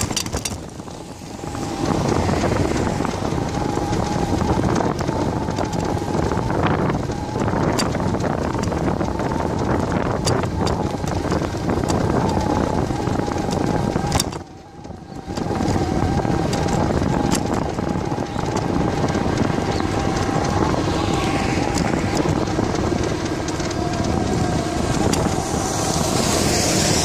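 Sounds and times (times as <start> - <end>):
bicycle clicks and rattles: 0.0 - 27.0
steady whine: 0.0 - 27.0
wind rushing over microphone: 0.0 - 27.0.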